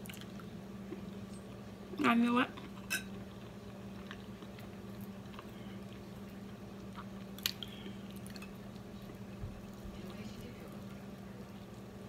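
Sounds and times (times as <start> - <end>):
chewing fried chicken: 0.0 - 12.0.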